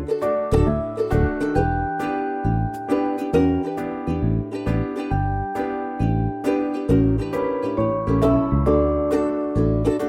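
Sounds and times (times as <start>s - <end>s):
bouncy plucked string tune: 0.0s - 10.0s.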